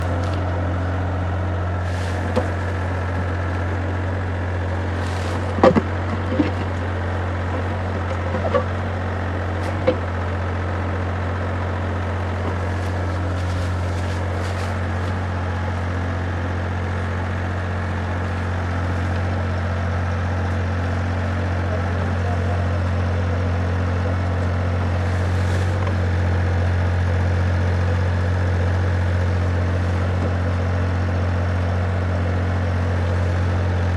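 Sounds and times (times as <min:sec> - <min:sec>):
excavator engine droning: 0:00.0 - 0:33.9.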